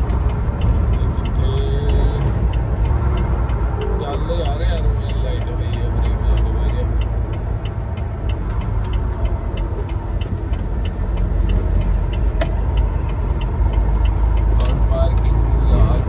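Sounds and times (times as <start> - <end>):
truck engine and road rumble: 0.0 - 16.0
turn signal clicking: 0.0 - 16.0.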